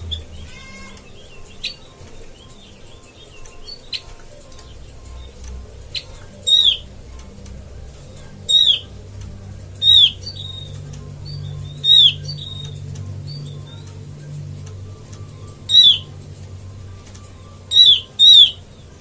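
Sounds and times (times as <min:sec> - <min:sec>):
bird whistled notes: 0:00.0 - 0:07.0, 0:08.4 - 0:09.0, 0:09.8 - 0:13.9, 0:14.9 - 0:19.0
low hum: 0:00.0 - 0:19.0.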